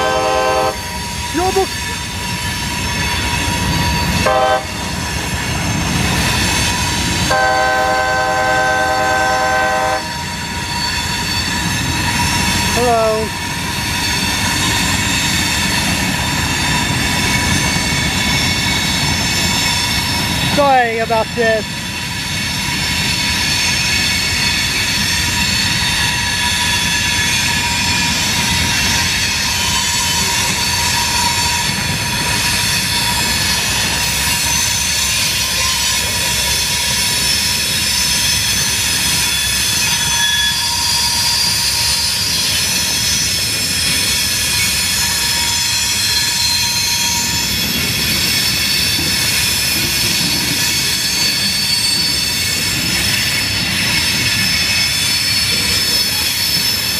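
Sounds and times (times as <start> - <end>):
train wheels squealing: 0.0 - 56.9
wheels rumbling on rails: 0.0 - 56.9.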